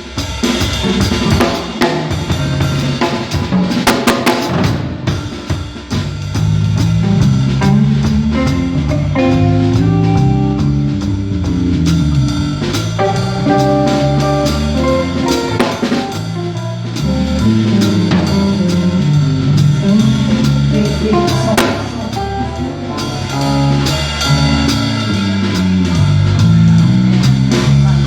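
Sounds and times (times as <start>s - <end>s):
bass line: 0.0s - 28.0s
drum kit beat: 0.0s - 28.0s
sustained keyboard or guitar chords: 1.1s - 4.3s, 6.4s - 28.0s.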